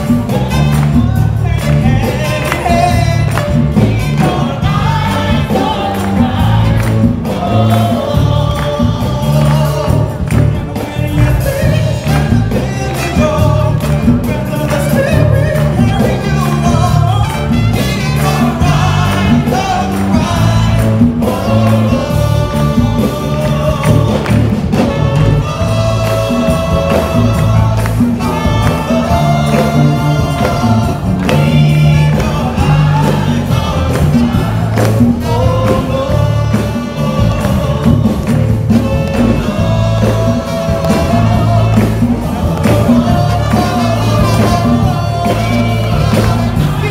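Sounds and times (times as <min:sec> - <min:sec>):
bass line: 0:00.0 - 0:46.9
congregation clapping along: 0:00.0 - 0:46.9
singers at microphones: 0:00.0 - 0:46.9.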